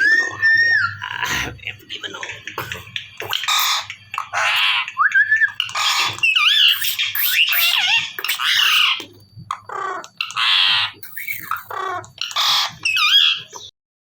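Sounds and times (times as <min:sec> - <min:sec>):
parrot whistling: 0:00.0 - 0:01.5, 0:03.2 - 0:13.7
parrot squawking: 0:00.0 - 0:13.7.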